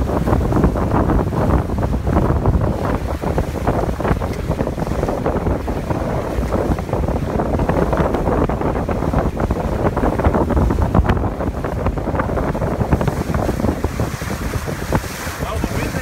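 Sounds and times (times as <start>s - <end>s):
water splashing along boat hulls: 0.0s - 16.0s
wind buffeting microphone: 0.0s - 16.0s.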